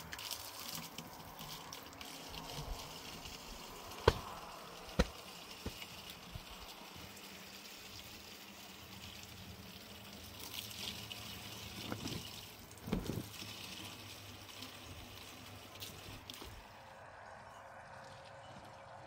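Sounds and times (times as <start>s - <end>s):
water trickling and pouring: 0.0s - 19.0s.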